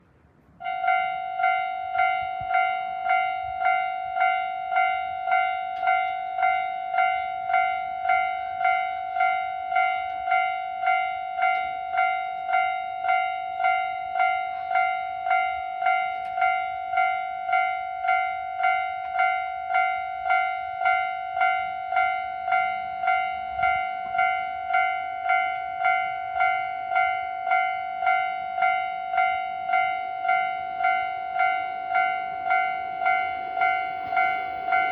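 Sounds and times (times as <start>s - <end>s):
level crossing alarm ringing: 0.6s - 34.9s.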